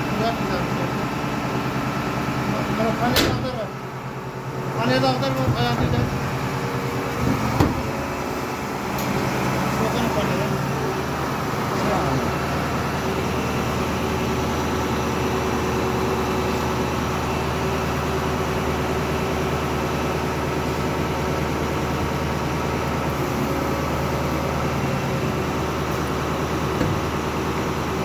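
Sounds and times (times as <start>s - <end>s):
crane engine running: 0.0s - 28.0s.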